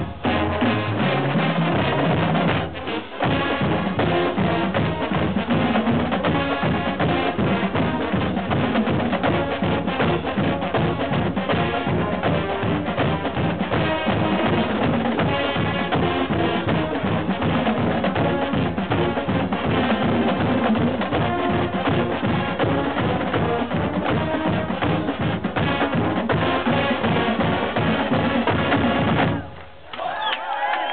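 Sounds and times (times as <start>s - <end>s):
sousaphones and brass: 0.0s - 29.5s
marching band playing: 0.0s - 29.8s
snare and bass drums: 0.0s - 29.9s.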